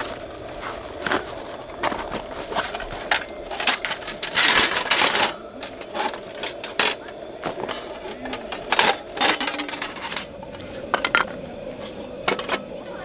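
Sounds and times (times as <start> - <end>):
objects clicking and clattering: 1.0 - 12.7.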